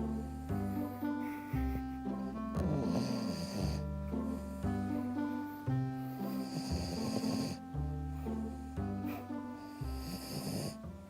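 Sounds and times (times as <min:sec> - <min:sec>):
background music with held notes: 0:00.0 - 0:11.0
dog snoring: 0:00.0 - 0:11.0.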